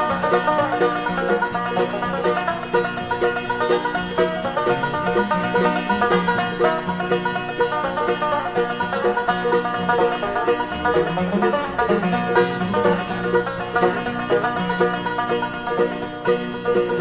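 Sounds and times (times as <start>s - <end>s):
bass: 0.0s - 17.0s
fast plucked banjo: 0.0s - 17.0s
guitar: 0.0s - 17.0s.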